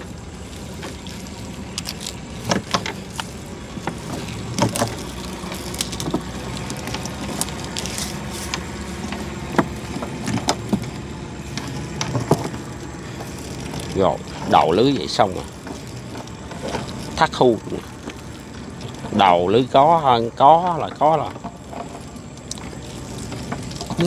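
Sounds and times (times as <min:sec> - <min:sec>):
steady engine hum: 0:00.0 - 0:24.0.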